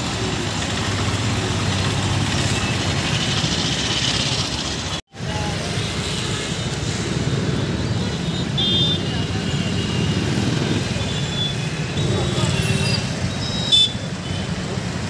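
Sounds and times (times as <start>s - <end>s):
busy road traffic: 0.0s - 15.0s.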